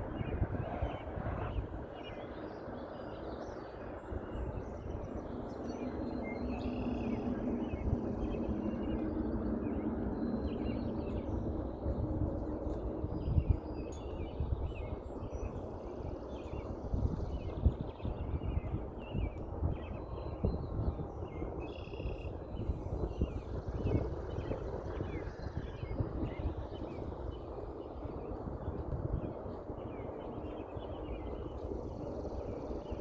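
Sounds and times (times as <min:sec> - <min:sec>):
low drone in the sky: 0:00.0 - 0:33.0
wind rumble: 0:00.0 - 0:33.0.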